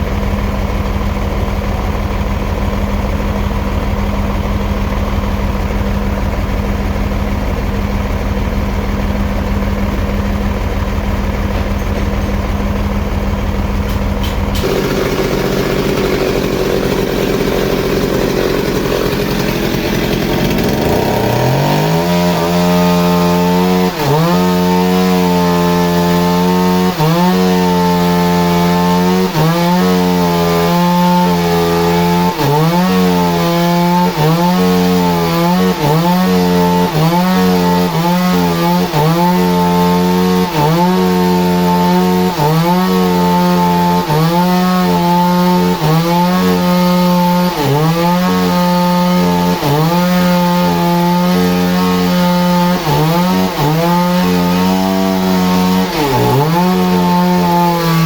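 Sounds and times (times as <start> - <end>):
chainsaw cutting wood: 0.0 - 58.0
engine rumbling: 0.0 - 58.0.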